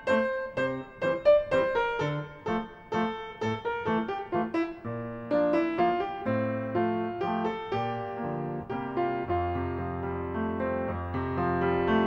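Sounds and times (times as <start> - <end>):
keyboard notes music: 0.0 - 12.0.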